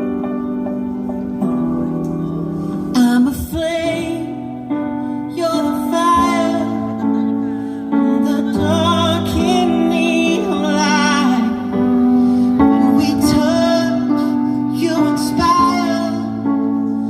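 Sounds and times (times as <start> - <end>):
person singing with vibrato: 2.8 - 17.0.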